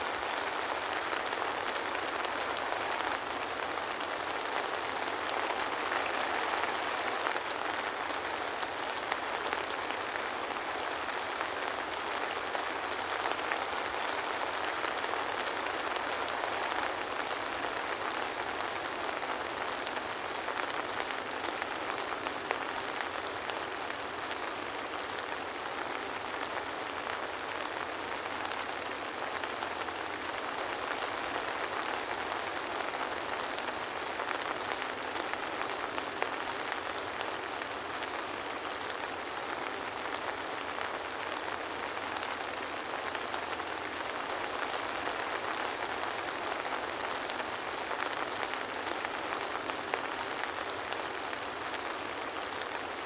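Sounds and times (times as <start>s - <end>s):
soft rain patter: 0.0s - 53.0s.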